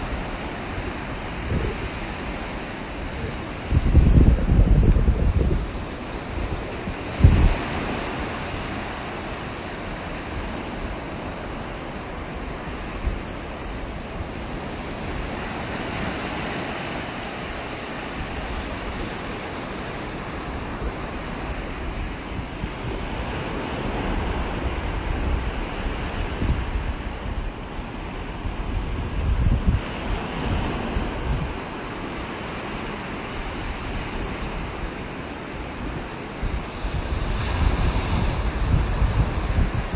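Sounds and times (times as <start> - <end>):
ocean surf breaking: 0.0 - 39.9
wind buffeting microphone: 0.0 - 39.9.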